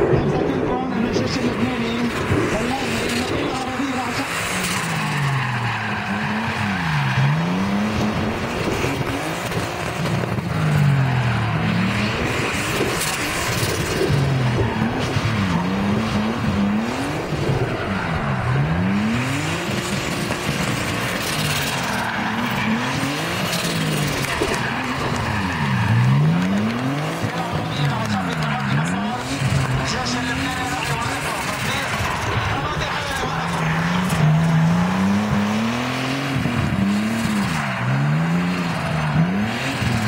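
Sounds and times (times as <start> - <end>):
car engine revving: 0.0 - 40.0
tyres skidding and squealing: 0.0 - 40.0.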